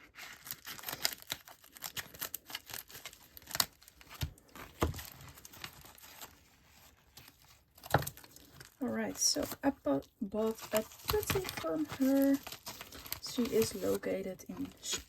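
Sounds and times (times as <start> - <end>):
scissors cutting package: 0.0 - 6.4, 7.2 - 15.0
packaging crinkling and tearing: 0.0 - 15.0.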